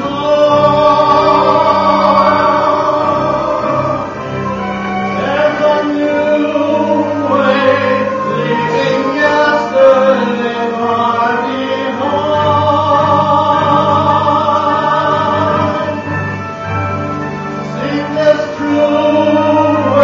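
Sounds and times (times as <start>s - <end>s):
choir singing: 0.0s - 16.8s, 17.6s - 20.0s.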